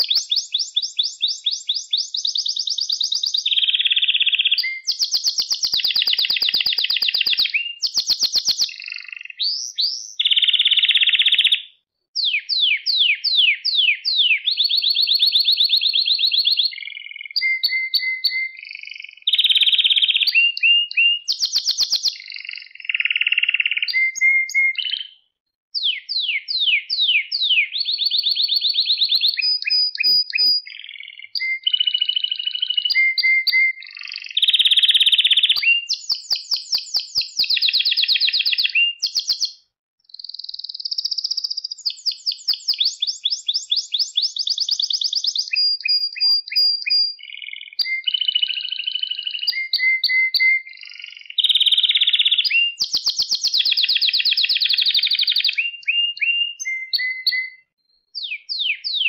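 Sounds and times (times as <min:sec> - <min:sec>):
canary singing: 0:00.0 - 0:25.2, 0:25.8 - 0:59.0.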